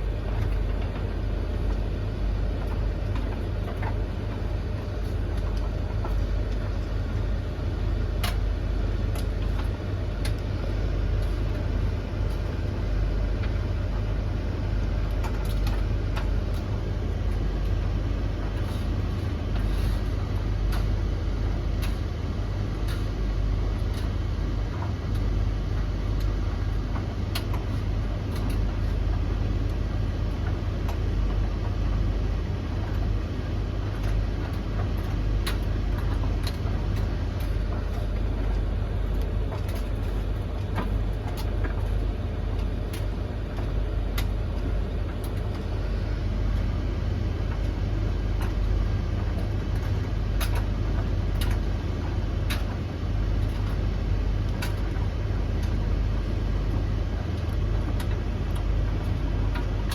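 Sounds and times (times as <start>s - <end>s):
tumble dryers rumbling: 0.0s - 59.9s.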